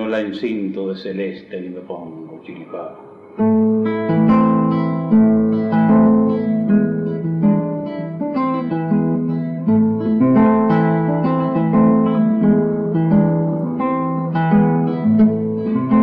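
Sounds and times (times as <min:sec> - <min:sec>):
solo acoustic guitar: 0:02.0 - 0:16.0.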